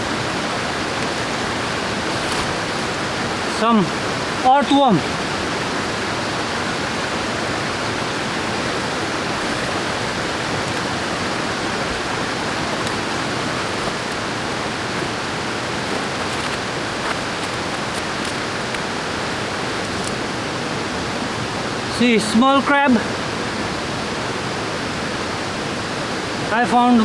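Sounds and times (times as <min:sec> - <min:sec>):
river water rushing: 0:00.0 - 0:21.9.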